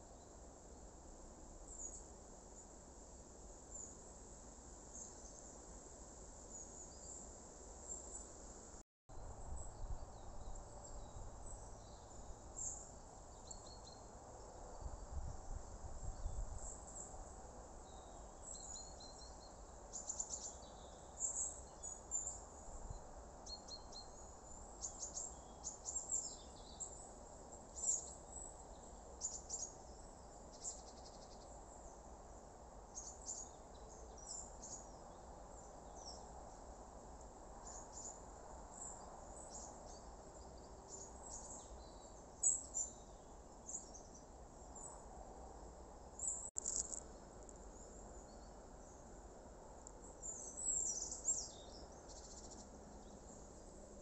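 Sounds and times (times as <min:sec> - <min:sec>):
birds and insects chirping: 0:00.0 - 0:54.0.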